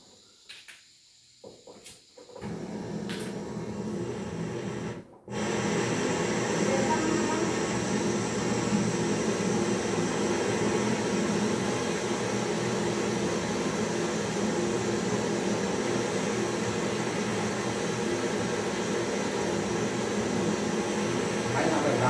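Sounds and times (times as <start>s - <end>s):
torch flame hissing: 0.0s - 22.0s.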